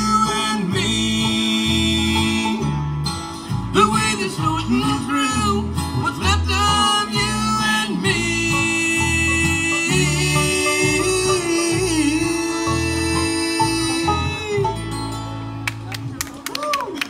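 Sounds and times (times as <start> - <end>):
acoustic guitar: 0.0 - 16.4
bass line: 0.0 - 16.4
bluegrass band playing live: 0.0 - 17.0.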